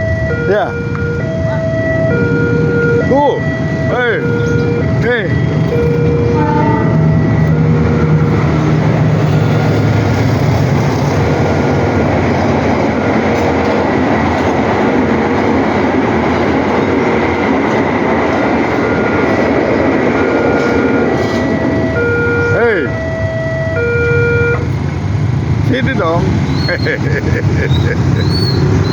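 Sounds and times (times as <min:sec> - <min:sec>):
train wheels on rails: 0:00.6 - 0:22.1, 0:24.6 - 0:28.9.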